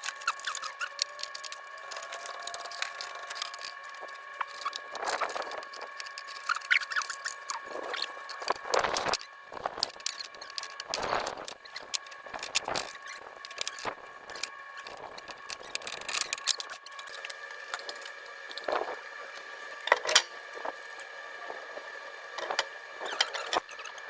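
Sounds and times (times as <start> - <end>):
high-pitched hum: 0.0 - 24.0.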